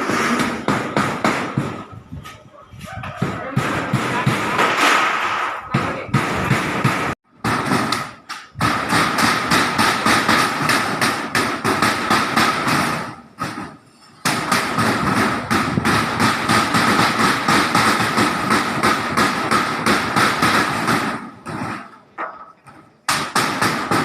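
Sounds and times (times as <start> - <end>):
hammers striking rapidly: 0.0 - 2.0, 3.2 - 22.0, 23.1 - 24.0.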